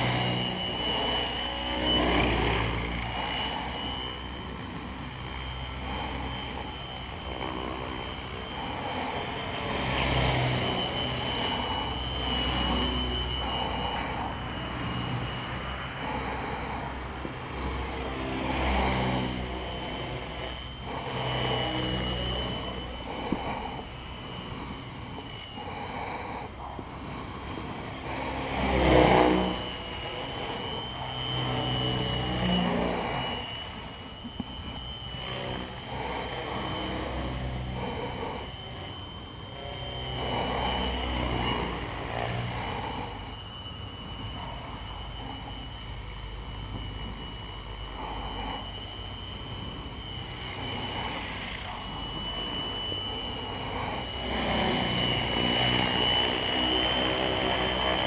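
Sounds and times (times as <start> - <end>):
rc helicopter whine: 0.0 - 58.0
rotor blade noise: 0.0 - 58.0.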